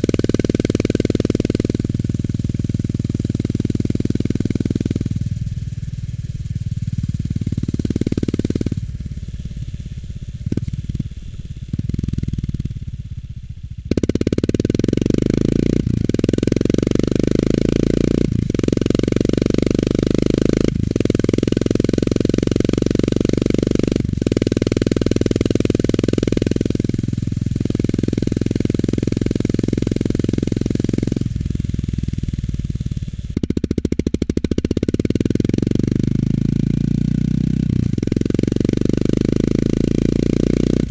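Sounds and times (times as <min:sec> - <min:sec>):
single-cylinder motorcycle engine: 0:00.0 - 0:40.9.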